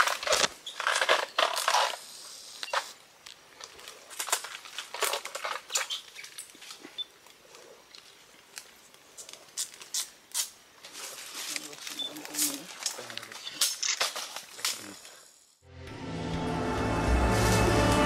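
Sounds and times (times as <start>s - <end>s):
palm fronds crackling and snapping: 0.0s - 15.2s.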